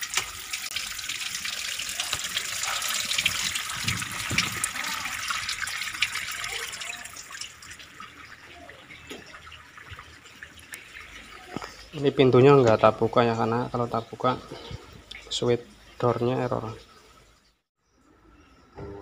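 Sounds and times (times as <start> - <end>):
water draining with splashes: 0.0 - 17.3.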